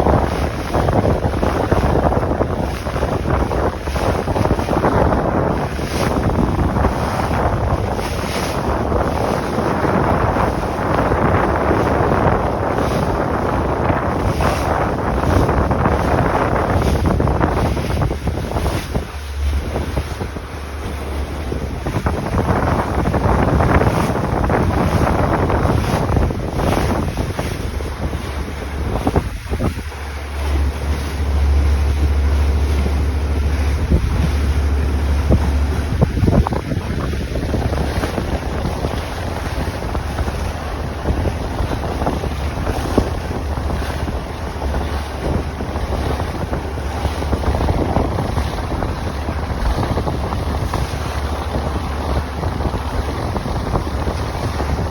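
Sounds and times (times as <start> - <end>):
water rushing along hull: 0.0 - 54.9
wind buffeting microphone: 0.0 - 54.9.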